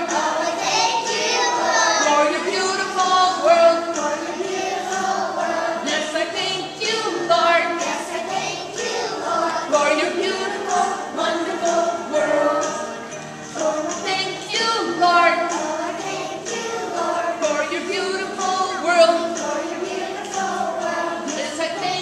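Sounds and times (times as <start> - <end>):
children singing in a choir: 0.0 - 22.0.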